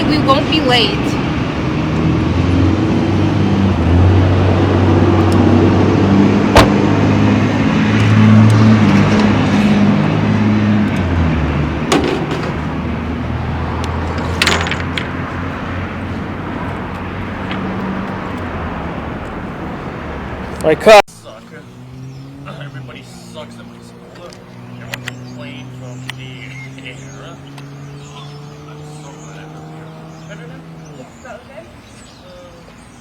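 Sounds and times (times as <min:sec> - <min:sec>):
car engine running: 0:00.0 - 0:31.2.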